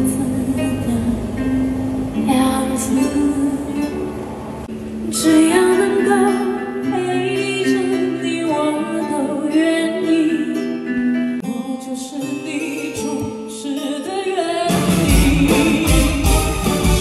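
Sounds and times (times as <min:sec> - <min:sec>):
woman singing pop ballad: 0:00.0 - 0:01.6, 0:02.2 - 0:04.0, 0:05.1 - 0:16.6
instrumental accompaniment: 0:00.0 - 0:17.0.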